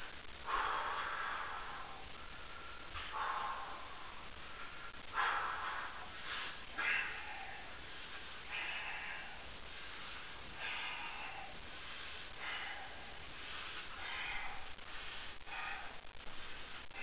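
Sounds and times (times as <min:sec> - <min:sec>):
forceful sharp breaths: 0:00.0 - 0:17.0.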